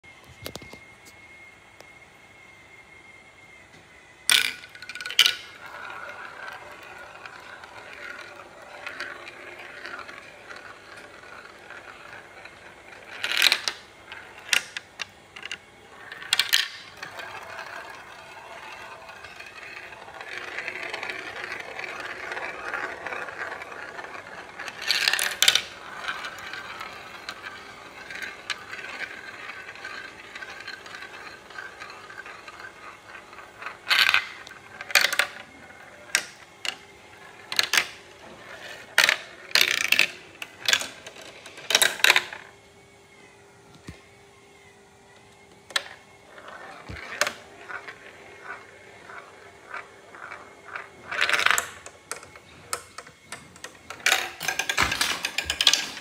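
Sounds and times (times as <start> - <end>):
marble clacking on plastic tracks: 4.2 - 42.5, 45.6 - 56.0
marble rolling in plastic bowls: 4.2 - 42.7, 45.2 - 56.0.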